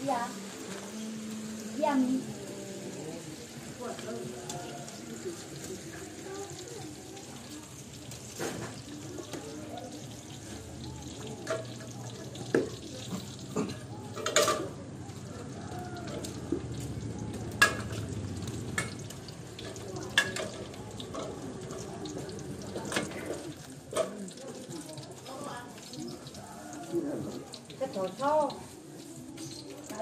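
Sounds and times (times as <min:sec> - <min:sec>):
background noise: 0:00.0 - 0:30.0
faint distant voices: 0:00.0 - 0:30.0.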